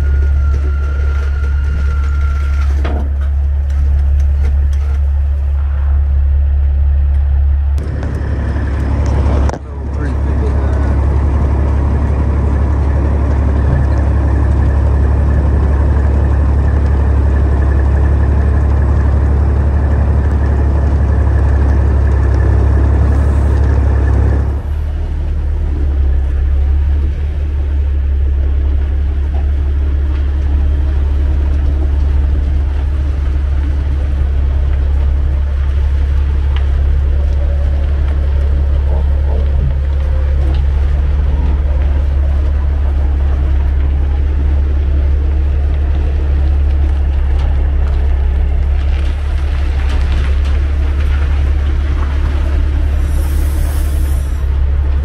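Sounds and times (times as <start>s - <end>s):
deep truck engine drone: 0.0s - 55.0s
road noise: 0.0s - 55.0s.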